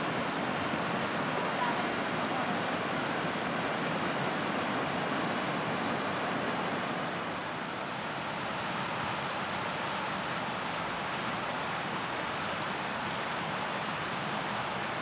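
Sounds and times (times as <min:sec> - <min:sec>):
river water flowing over stones: 0:00.0 - 0:15.0.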